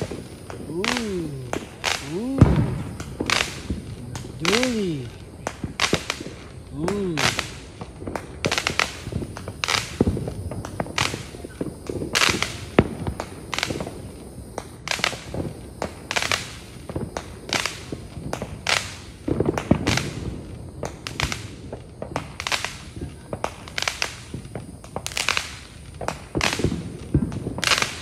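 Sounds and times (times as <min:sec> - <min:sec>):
fireworks bangs and pops: 0:00.0 - 0:28.0.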